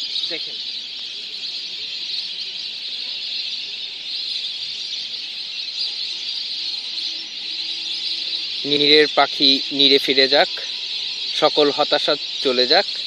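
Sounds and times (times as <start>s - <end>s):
flock of birds chattering: 0.0s - 13.0s.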